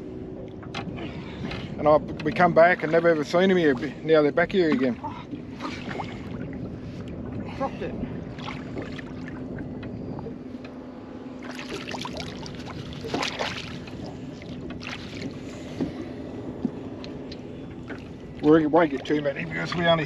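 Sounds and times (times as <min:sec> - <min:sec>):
shallow water splashing: 0:00.0 - 0:20.0.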